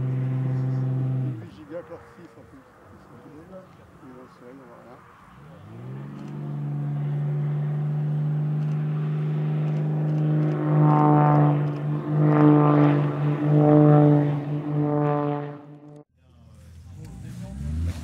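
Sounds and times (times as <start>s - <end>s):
plane engine droning overhead: 0.0s - 17.8s.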